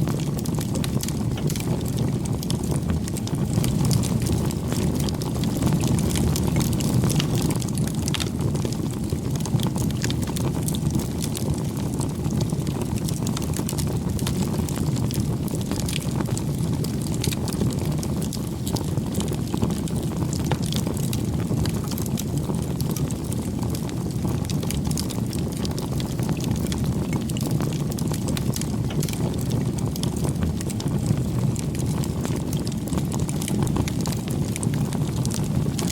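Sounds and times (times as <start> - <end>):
campfire flames rushing: 0.0 - 35.9
wood crackling and popping: 0.0 - 35.9.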